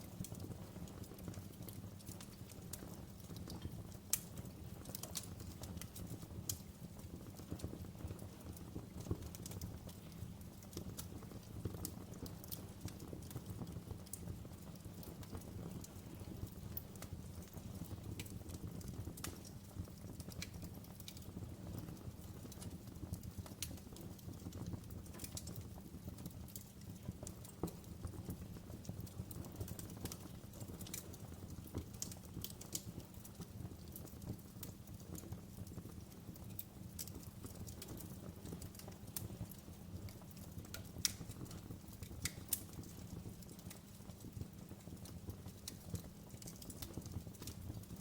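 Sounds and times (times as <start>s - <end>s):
fire pops and snaps: 0.0s - 48.0s
low rumble of flames: 0.0s - 48.0s.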